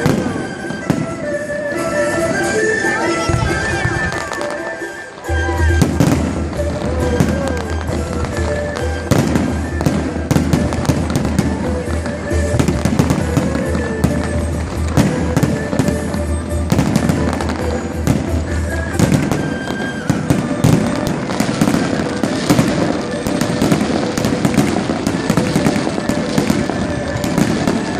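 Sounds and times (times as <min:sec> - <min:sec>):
fireworks bangs and crackles: 0:00.0 - 0:27.9
music playing: 0:00.0 - 0:27.9.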